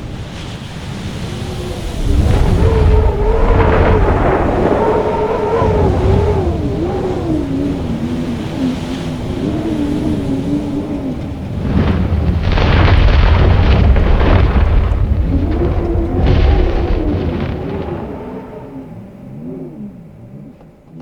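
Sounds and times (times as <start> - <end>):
howling blizzard wind: 0.0 - 21.0.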